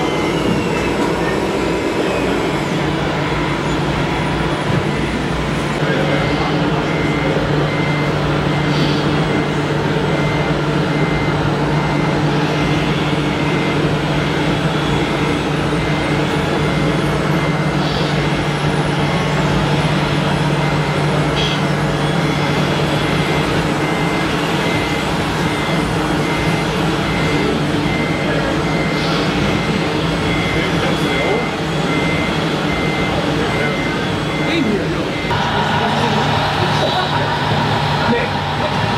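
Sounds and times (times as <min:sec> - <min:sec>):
high warning beeper: 0:00.0 - 0:38.9.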